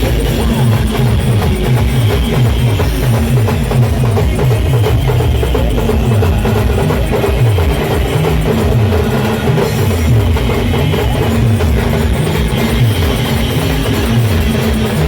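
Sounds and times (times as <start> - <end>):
heavy drum beat: 0.0 - 15.0
loud band music: 0.0 - 15.0.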